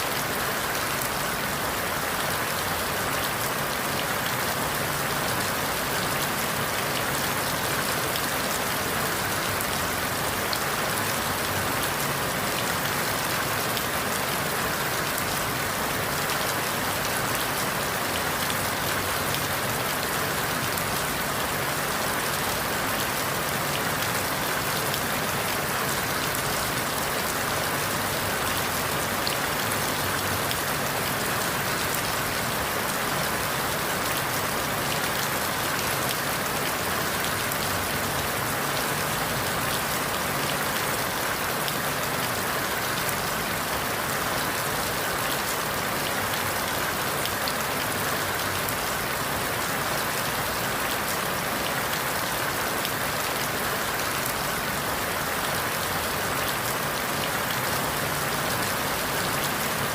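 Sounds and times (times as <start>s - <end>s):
rain falling through leaves: 0.0s - 59.9s.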